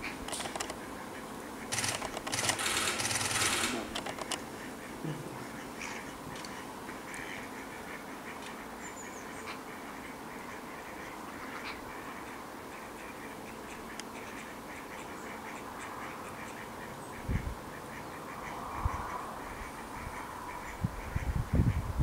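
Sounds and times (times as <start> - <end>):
background hiss: 0.0 - 21.1
ducks quacking: 2.8 - 21.4.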